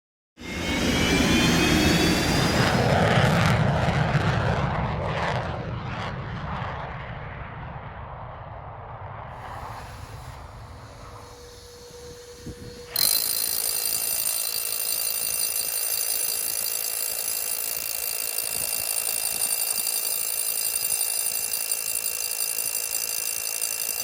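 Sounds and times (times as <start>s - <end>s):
jet engine whining: 0.4s - 6.8s, 9.4s - 24.0s.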